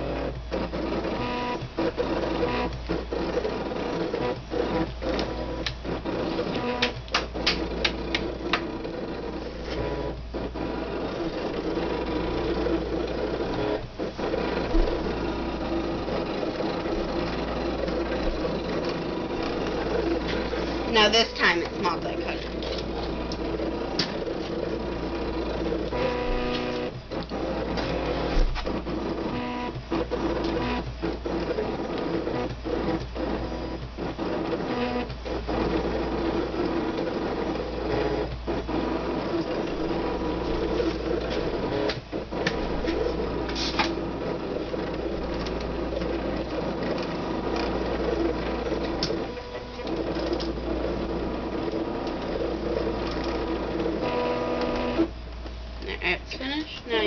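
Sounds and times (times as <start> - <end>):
cutting machine motors whirring: 0.0 - 57.0.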